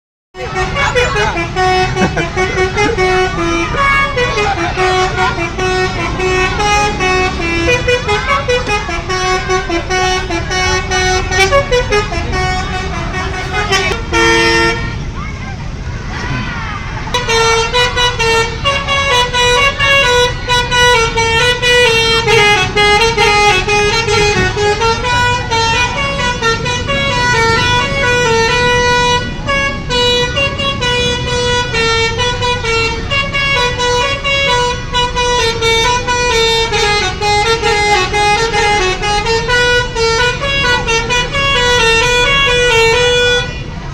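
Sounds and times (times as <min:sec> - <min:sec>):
musical bus horn melody: 0:00.4 - 0:15.2, 0:17.0 - 0:43.9.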